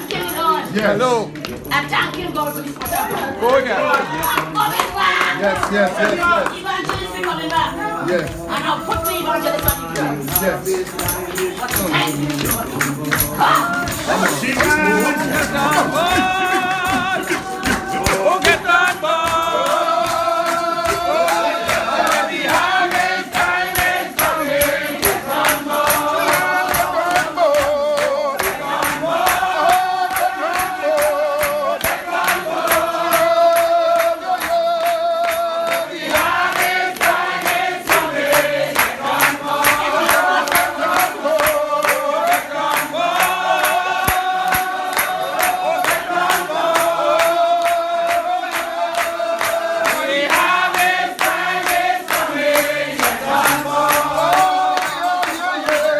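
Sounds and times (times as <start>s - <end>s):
congregation singing a hymn: 0.0s - 55.9s
steady percussive beat: 0.0s - 55.9s.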